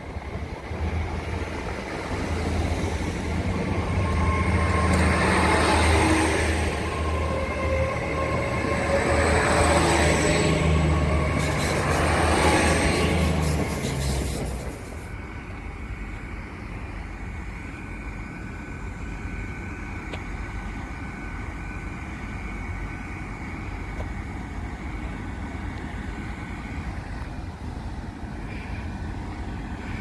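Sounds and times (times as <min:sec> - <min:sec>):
train diesel engine rumble: 0:00.0 - 0:30.0.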